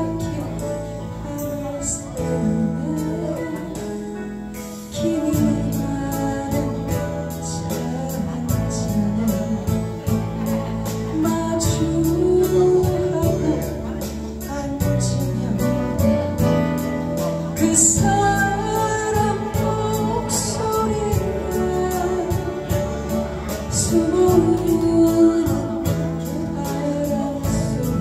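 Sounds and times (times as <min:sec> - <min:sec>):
strummed acoustic guitar: 0:00.0 - 0:28.0
woman singing into a microphone: 0:00.0 - 0:28.0.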